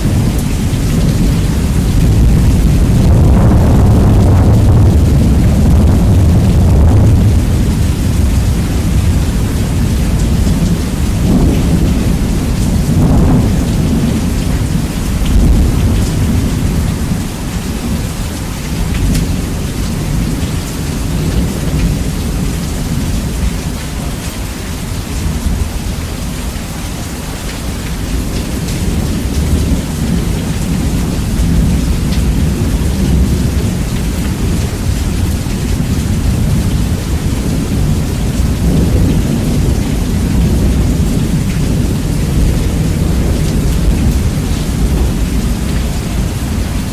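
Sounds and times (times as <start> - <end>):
heavy rain: 0.0 - 46.9
rolling thunder: 0.0 - 46.9.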